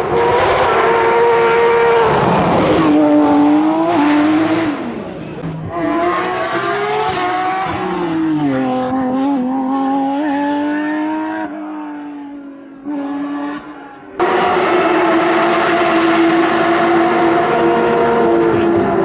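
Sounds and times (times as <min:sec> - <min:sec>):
rally car engines at high revs: 0:00.0 - 0:19.0.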